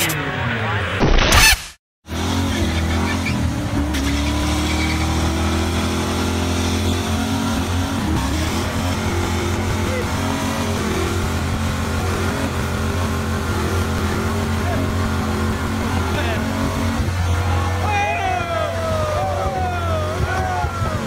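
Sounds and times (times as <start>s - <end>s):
car engine at high revs: 2.0s - 21.0s.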